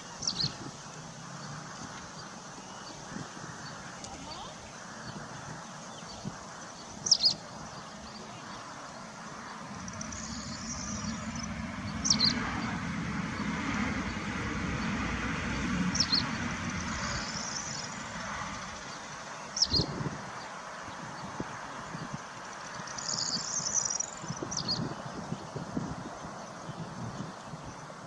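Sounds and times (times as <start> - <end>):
vehicle passing: 0.0 - 26.7.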